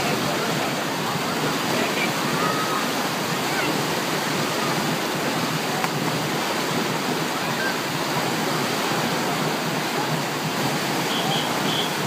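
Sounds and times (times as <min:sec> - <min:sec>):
distant voices of swimmers: 0:00.0 - 0:12.0
waves breaking and churning: 0:00.0 - 0:12.0.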